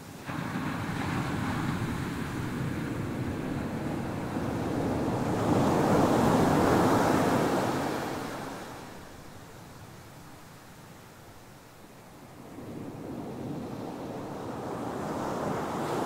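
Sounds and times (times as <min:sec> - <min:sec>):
waves breaking on a beach: 0:00.0 - 0:16.0.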